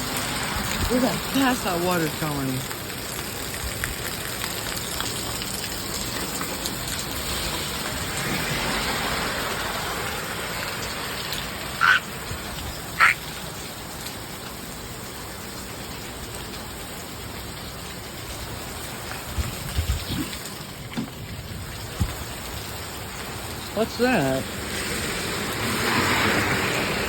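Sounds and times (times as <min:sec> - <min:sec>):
rain falling: 0:00.0 - 0:27.0
runoff water rushing: 0:00.0 - 0:27.0.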